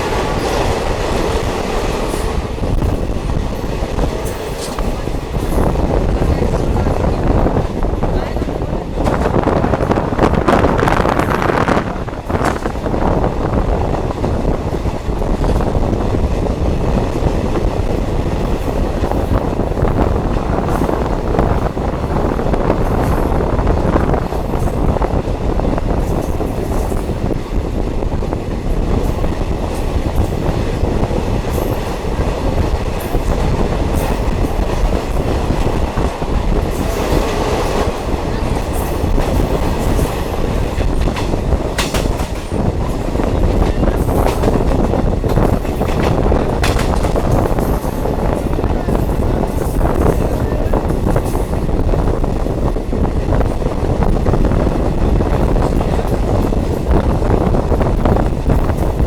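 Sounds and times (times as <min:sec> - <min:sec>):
train clatter: 0:00.0 - 0:59.0
train wheels rumbling on rails: 0:00.0 - 0:59.0.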